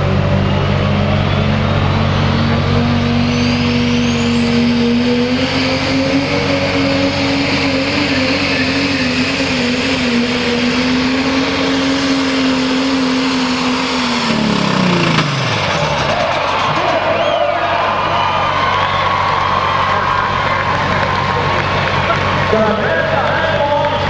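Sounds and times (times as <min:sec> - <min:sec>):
diesel engine high-revving drone: 0:00.0 - 0:24.0.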